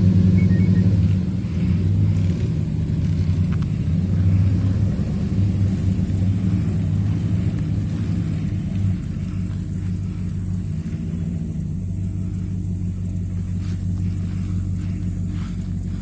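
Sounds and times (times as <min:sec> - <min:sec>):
truck engine rumbling at low revs: 0:00.0 - 0:16.0.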